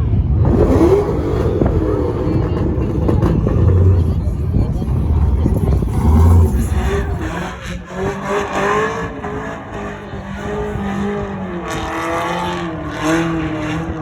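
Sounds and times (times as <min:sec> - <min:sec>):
car engine revving: 0:00.2 - 0:14.0.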